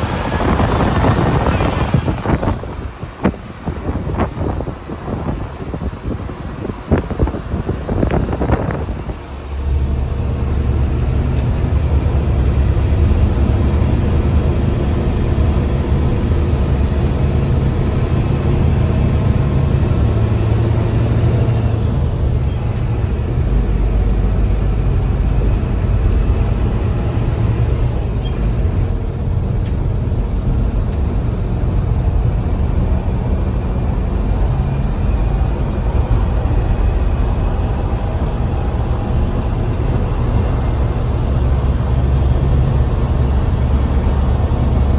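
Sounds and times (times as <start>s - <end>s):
bus diesel engine drone: 0.0s - 44.9s.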